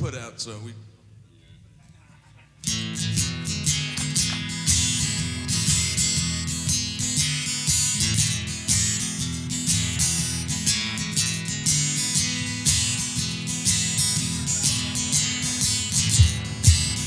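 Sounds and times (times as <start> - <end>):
acoustic guitar strumming: 2.6 - 17.0.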